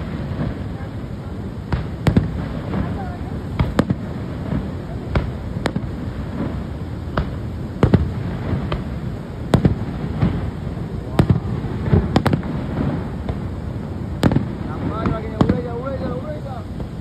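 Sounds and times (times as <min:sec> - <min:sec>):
fireworks bangs: 0:00.0 - 0:17.0
low background rumble: 0:00.0 - 0:17.0.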